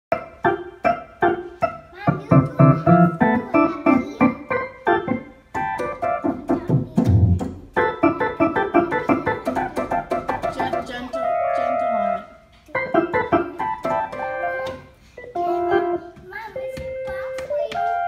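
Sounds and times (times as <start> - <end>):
organ notes and key clusters: 2.1 - 18.0.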